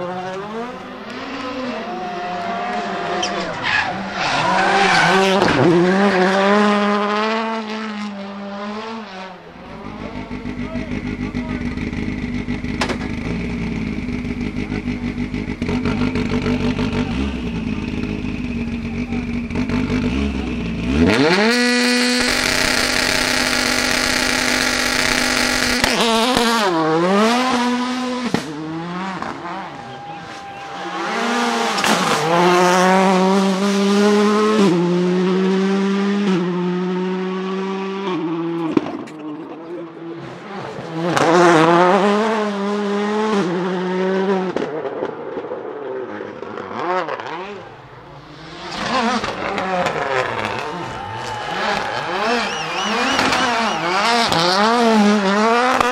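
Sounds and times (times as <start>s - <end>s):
rally car engine revving and accelerating: 0.0s - 55.9s.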